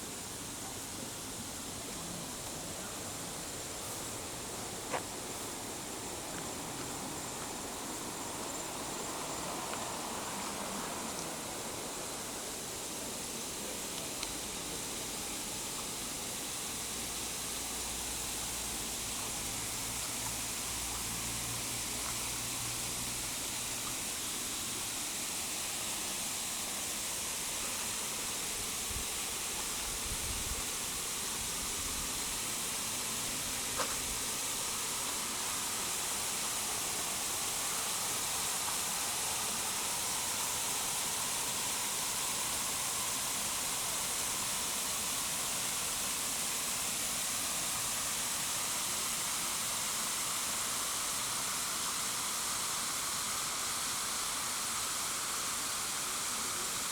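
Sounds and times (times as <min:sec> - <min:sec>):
waterfall rushing: 0:00.0 - 0:30.0, 0:30.6 - 0:56.9.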